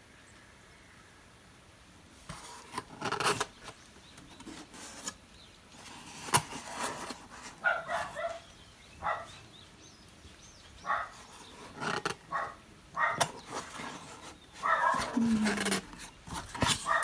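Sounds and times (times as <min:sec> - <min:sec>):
straw rustling against cardboard: 0:02.2 - 0:09.5, 0:10.4 - 0:17.0.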